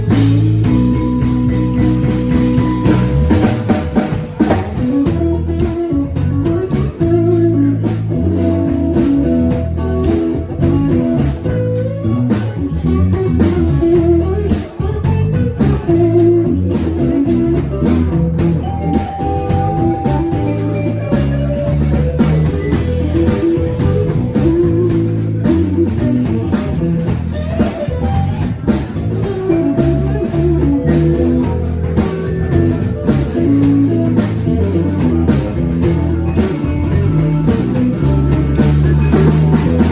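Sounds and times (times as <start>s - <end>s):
blues-rock band music: 0.0s - 39.9s.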